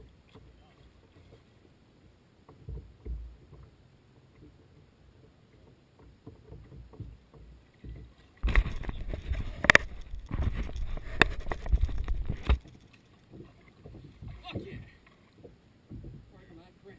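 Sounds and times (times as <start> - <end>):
water knocking against boat hull: 2.4 - 16.7.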